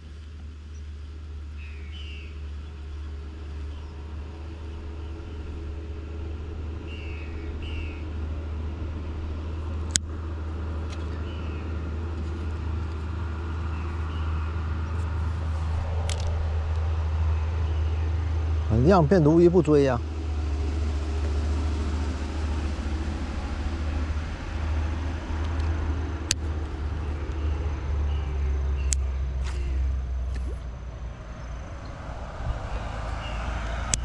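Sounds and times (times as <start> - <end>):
motor vehicle rumble: 0.0 - 34.0.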